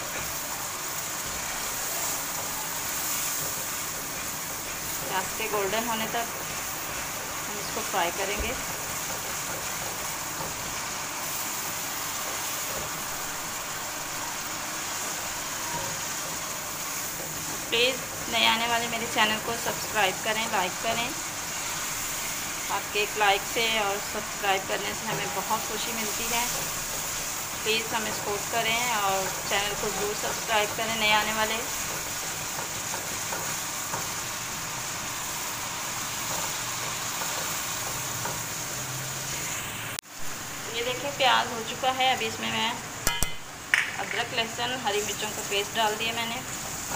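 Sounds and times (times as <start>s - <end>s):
onions sizzling in hot oil: 0.0s - 46.9s.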